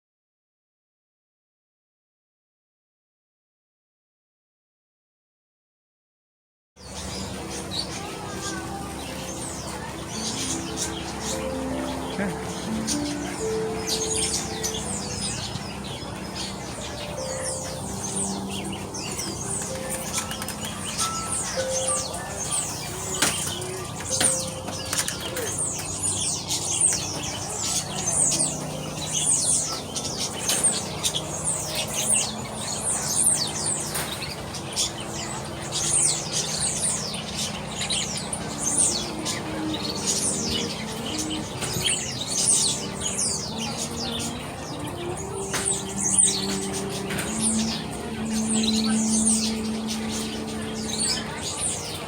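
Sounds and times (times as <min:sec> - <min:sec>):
small birds chirping: 0:06.8 - 0:52.0
low held notes: 0:07.0 - 0:34.6, 0:37.2 - 0:52.0.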